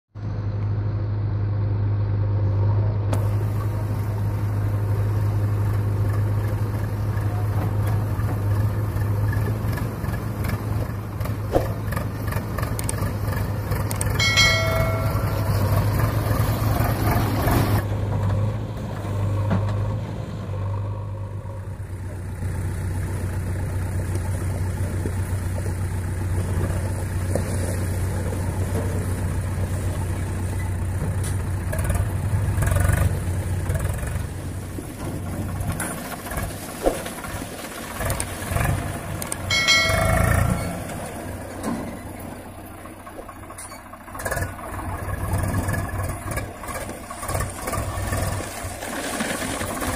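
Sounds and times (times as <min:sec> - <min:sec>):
tractor diesel engine running: 0:00.1 - 0:49.9.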